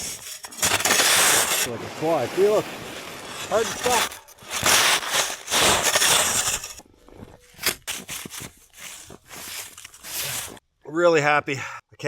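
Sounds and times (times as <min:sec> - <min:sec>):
roofing crunching and sliding: 0:00.0 - 0:10.6.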